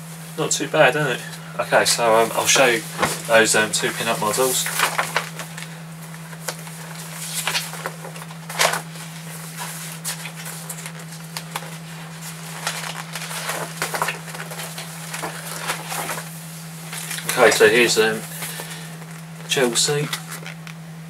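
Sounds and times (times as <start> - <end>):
paper pages turning: 2.6 - 20.8.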